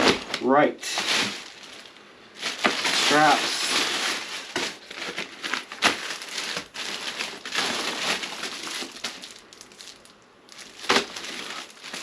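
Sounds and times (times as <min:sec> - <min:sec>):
bag fabric rustling and crinkling: 0:00.0 - 0:12.0.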